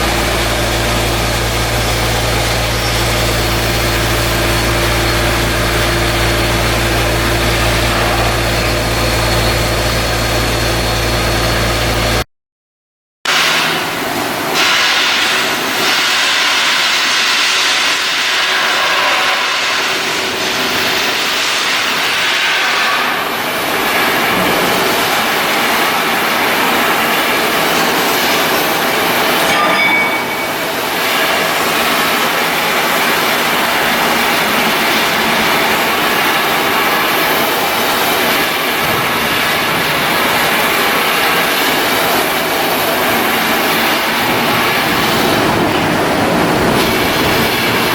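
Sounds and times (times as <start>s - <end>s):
clattering shipyard work: 0.0s - 12.2s, 13.3s - 47.9s.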